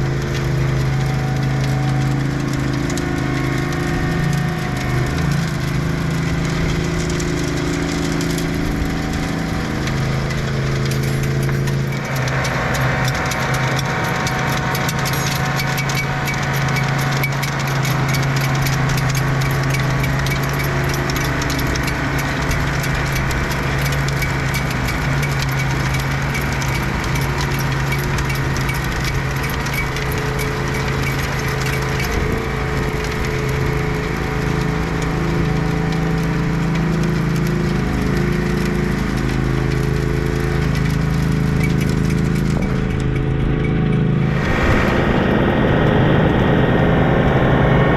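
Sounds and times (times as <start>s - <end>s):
rotary tiller rattling: 0.0s - 47.9s
tractor engine running under load: 0.0s - 47.9s.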